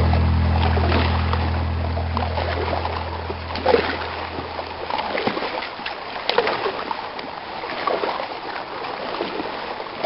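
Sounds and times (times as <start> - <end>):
moving water wash: 0.0 - 10.0
paddles splashing in water: 0.0 - 10.0.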